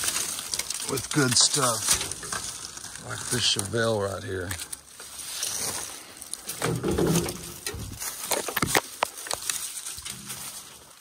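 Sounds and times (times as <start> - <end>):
footsteps crunching through dry leaves: 0.0 - 11.0
twigs snapping and cracking: 0.0 - 11.0.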